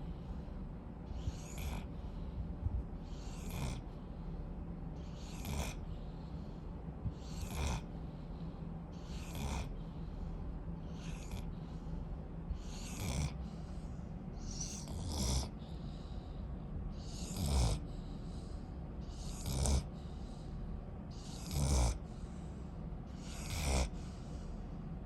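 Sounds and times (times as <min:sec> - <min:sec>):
puppy snoring: 0:01.1 - 0:04.2, 0:05.0 - 0:16.4, 0:17.0 - 0:20.5, 0:21.1 - 0:24.5.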